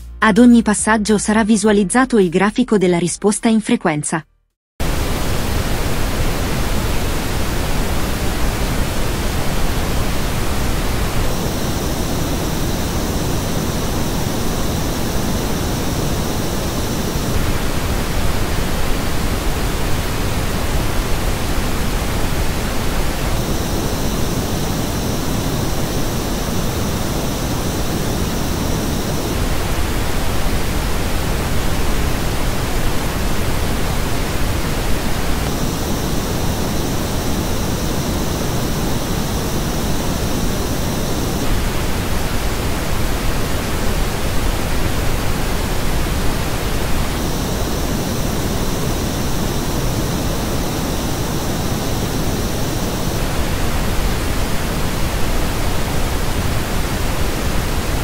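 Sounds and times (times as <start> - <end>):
pink noise test signal: 4.8 - 58.0.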